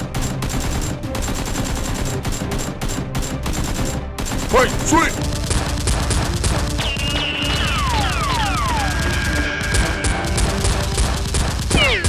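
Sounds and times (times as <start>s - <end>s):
action music with steady beat: 0.0s - 12.0s
gunfire sound effects: 0.0s - 12.0s.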